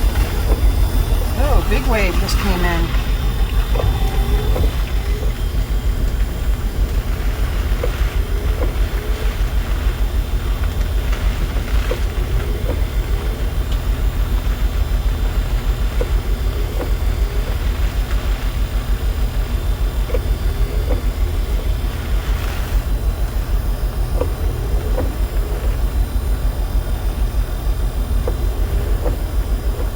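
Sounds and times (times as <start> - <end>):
cabin fan running: 0.0 - 29.9
car engine idling: 0.0 - 29.9.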